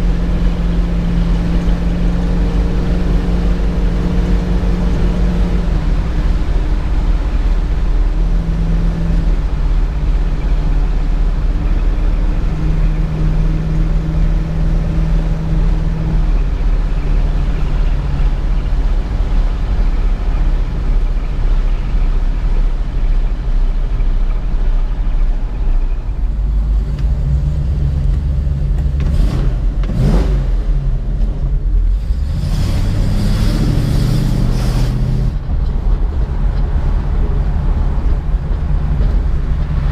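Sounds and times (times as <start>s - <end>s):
car engine running: 0.0s - 39.9s
road and wind noise: 0.0s - 39.9s.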